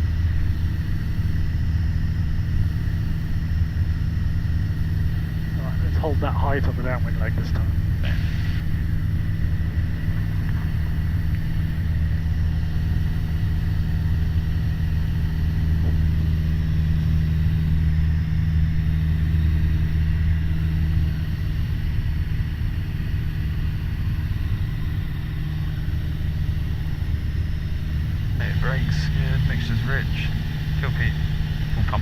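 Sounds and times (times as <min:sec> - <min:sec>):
airplane engine and propeller droning: 0:00.0 - 0:32.0.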